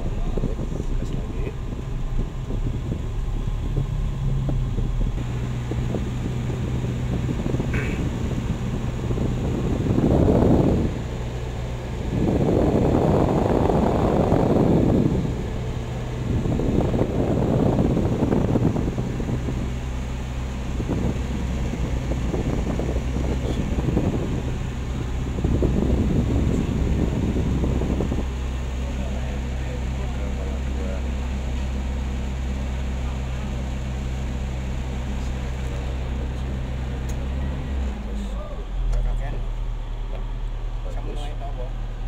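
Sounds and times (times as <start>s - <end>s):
blower fan running: 0.0s - 42.0s
car engine idling: 0.0s - 42.0s
wind buffeting microphone: 0.0s - 42.0s.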